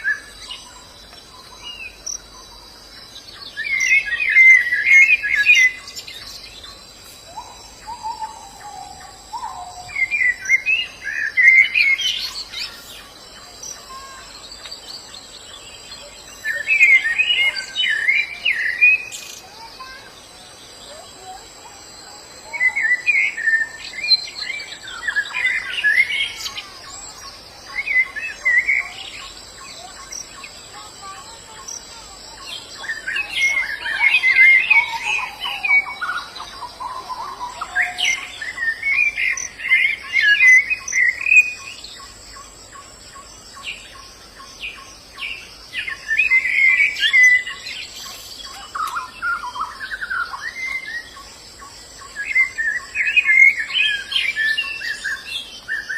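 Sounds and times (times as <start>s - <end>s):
birds twittering: 0.0s - 55.9s.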